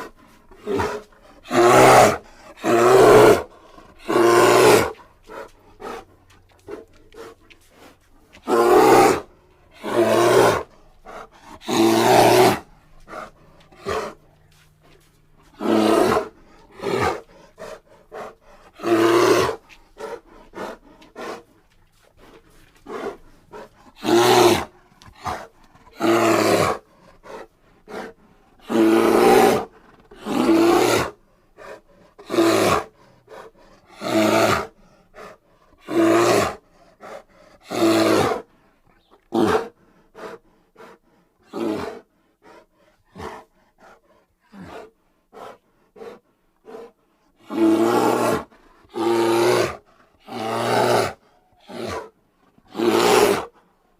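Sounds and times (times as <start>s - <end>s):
bear roaring: 0.0s - 7.4s, 8.3s - 53.7s.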